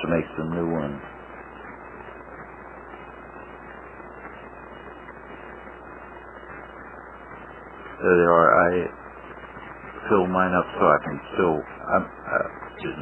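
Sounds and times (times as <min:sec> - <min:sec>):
background hiss: 0:00.0 - 0:13.0
low hum: 0:00.0 - 0:13.0.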